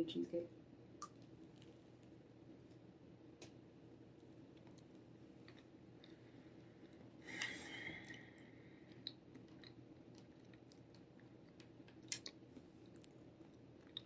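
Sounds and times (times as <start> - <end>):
quiet chewing: 1.0 - 14.0.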